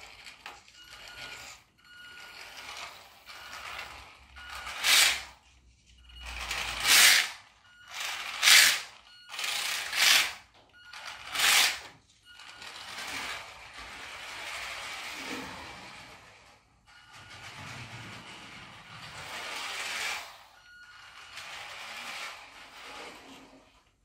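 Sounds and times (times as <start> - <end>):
plastic wheels rolling on floor: 0.0 - 5.5, 6.1 - 24.0
toy car motor whirring: 0.0 - 5.6, 6.2 - 24.0.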